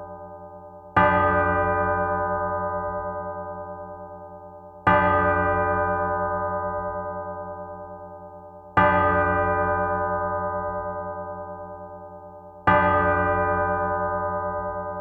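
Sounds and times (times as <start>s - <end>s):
church bell tolling: 0.0s - 15.0s.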